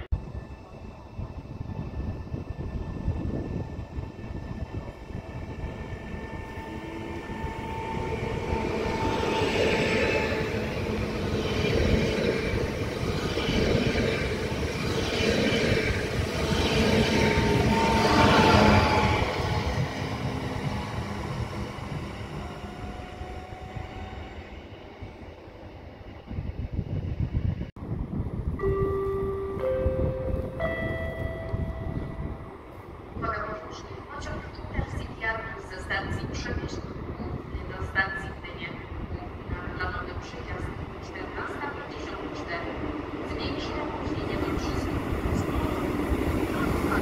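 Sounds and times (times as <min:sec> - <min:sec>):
electric train passing: 0:00.0 - 0:47.0.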